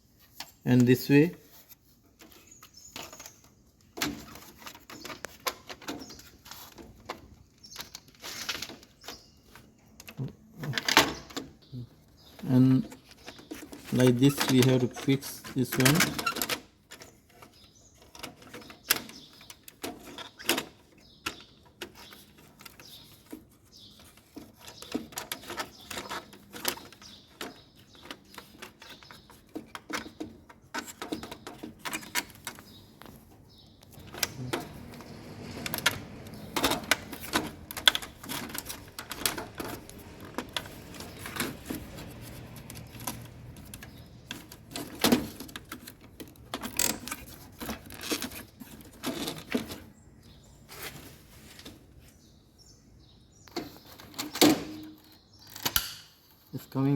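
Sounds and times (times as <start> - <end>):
plastic parts clicking and knocking: 0.3 - 50.4, 53.4 - 56.3.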